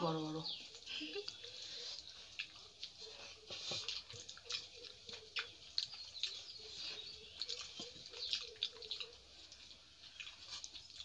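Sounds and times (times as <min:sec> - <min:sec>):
wet smacks of eating by hand: 0:00.7 - 0:11.0.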